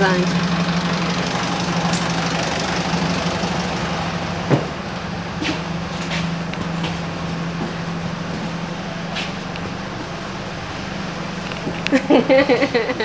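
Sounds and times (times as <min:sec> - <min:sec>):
air-conditioning hum: 0:00.0 - 0:13.0
bus engine idling: 0:00.0 - 0:13.0.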